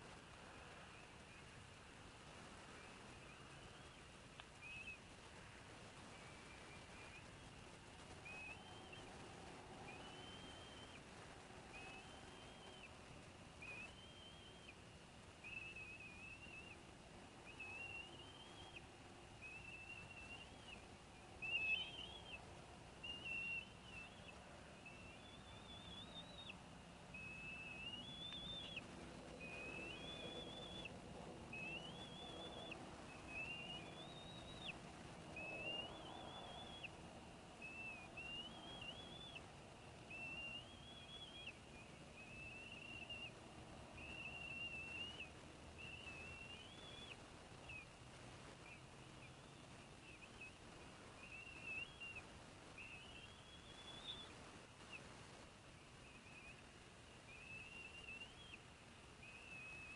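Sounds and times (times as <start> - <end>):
whistled bird calls: 2.7 - 5.1, 6.0 - 48.0, 48.6 - 59.9.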